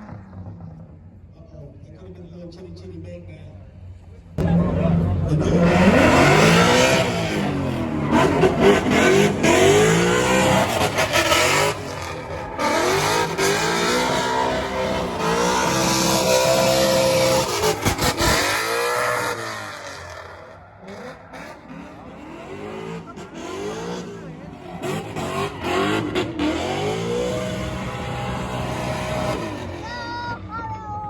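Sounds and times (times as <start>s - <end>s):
car engine revving: 4.4s - 30.1s.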